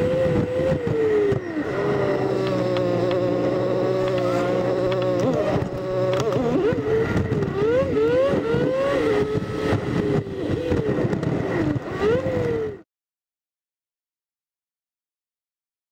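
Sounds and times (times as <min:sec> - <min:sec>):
sped-up car engine buzzing: 0:00.0 - 0:12.8.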